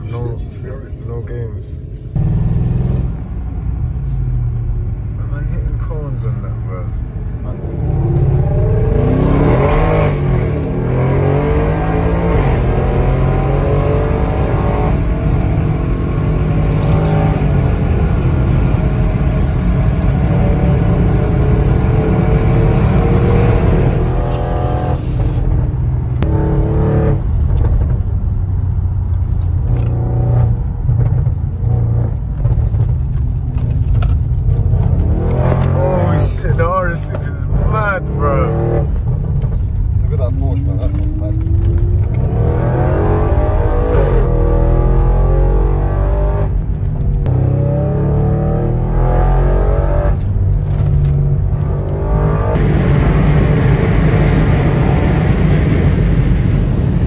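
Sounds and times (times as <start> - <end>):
road and wind noise: 0.0 - 57.0
car engine accelerating hard: 4.6 - 28.0, 29.6 - 57.0.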